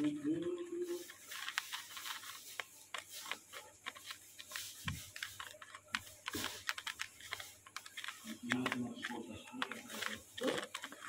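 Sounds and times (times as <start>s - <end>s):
light clicks and taps: 1.0s - 11.0s.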